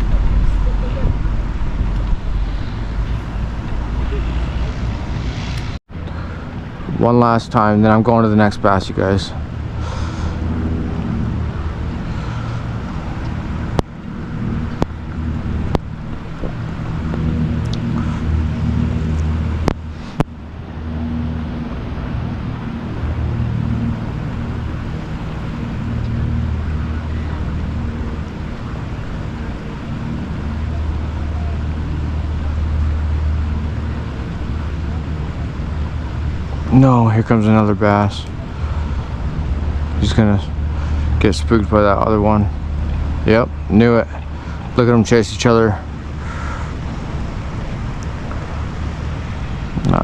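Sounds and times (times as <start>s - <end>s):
low motor hum: 0.0s - 50.0s.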